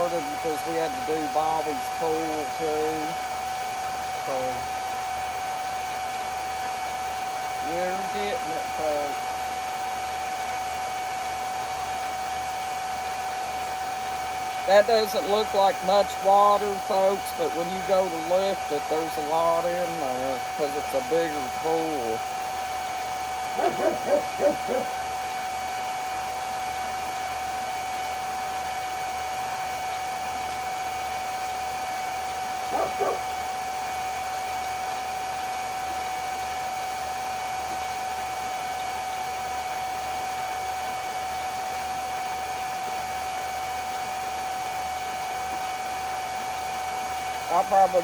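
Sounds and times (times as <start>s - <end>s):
electric pump humming and whining: 0.0s - 48.0s.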